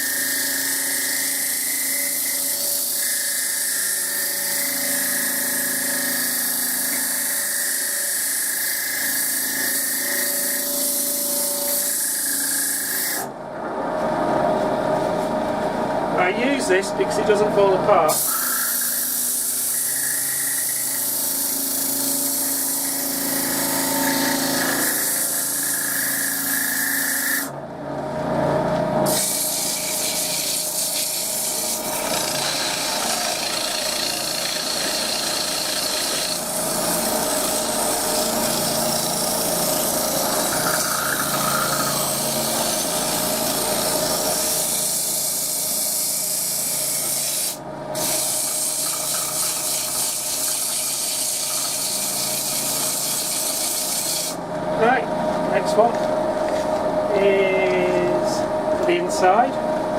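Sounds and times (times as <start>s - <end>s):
lathe motor hum: 0.0s - 59.9s.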